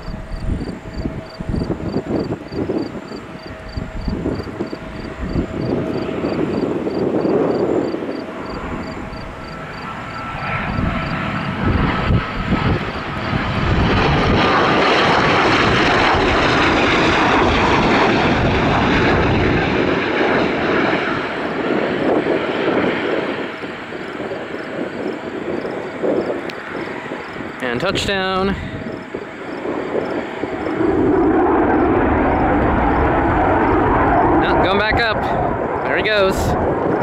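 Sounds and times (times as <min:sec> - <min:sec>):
jet engines whining and rushing: 0:00.0 - 0:37.0
wind buffeting microphone: 0:00.0 - 0:37.0.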